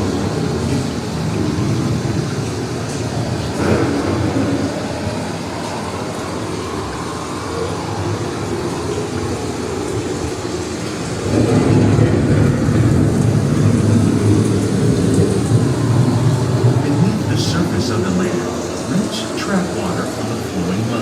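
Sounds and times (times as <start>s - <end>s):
deep thunder rumble: 0.0s - 21.0s
wind and rain: 0.0s - 21.0s.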